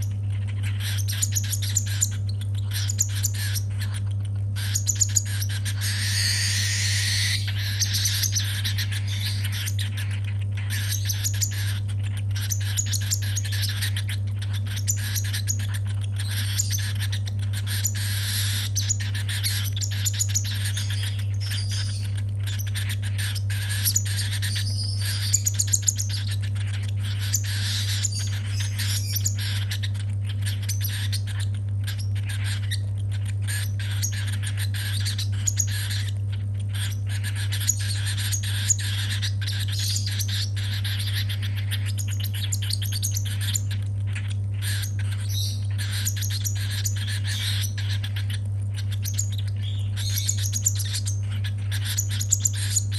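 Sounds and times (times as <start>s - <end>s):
baby bird raspy begging calls: 0.0s - 52.9s
steady low hum: 0.0s - 52.9s.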